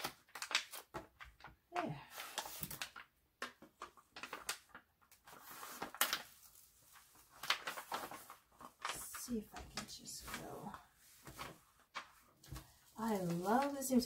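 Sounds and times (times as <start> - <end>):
film peeling crackling and rustling: 0.0 - 14.0.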